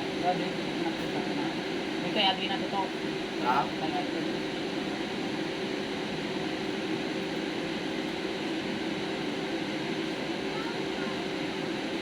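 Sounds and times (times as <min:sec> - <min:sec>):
machine hum and hiss: 0:00.0 - 0:12.0.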